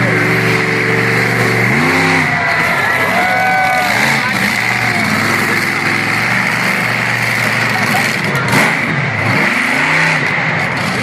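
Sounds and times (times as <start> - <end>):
crowd voices: 0.0 - 11.0
monster truck engine revving: 0.0 - 11.0.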